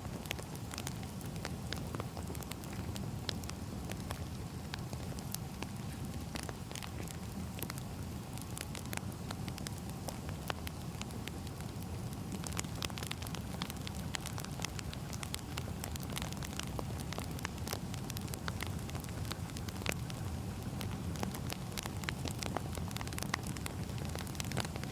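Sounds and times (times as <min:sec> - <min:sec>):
firewood crackling: 0:00.1 - 0:24.9.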